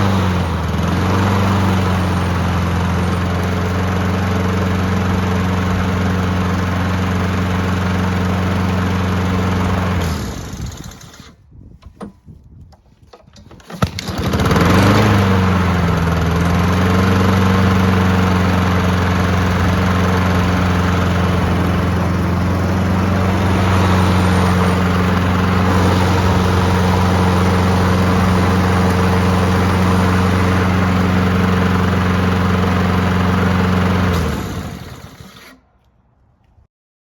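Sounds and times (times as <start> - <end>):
lawn mower engine running: 0.0 - 11.4, 13.1 - 35.6.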